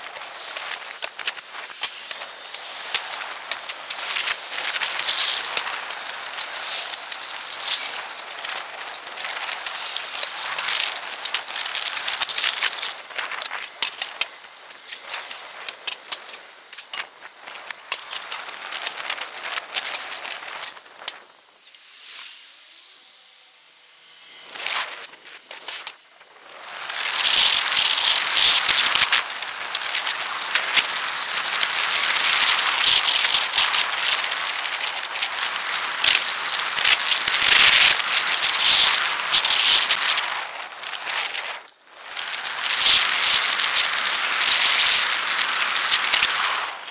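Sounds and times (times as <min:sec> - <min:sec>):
wind hissing crackle on microphone: 0:00.0 - 0:46.9
small clicks: 0:00.1 - 0:22.3, 0:24.6 - 0:26.1, 0:27.0 - 0:46.8.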